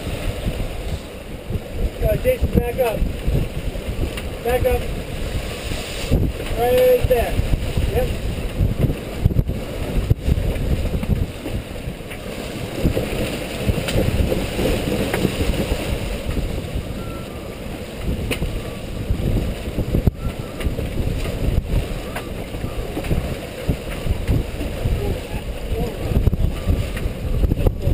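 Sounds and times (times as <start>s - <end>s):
strong wind buffeting microphone: 0.0s - 27.9s
water rushing along hull: 0.0s - 27.9s.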